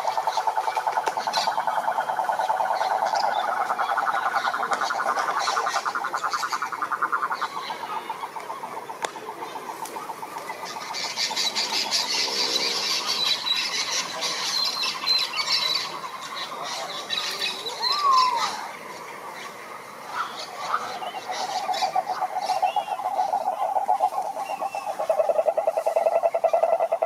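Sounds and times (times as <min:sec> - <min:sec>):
frogs calling: 0:00.0 - 0:27.0.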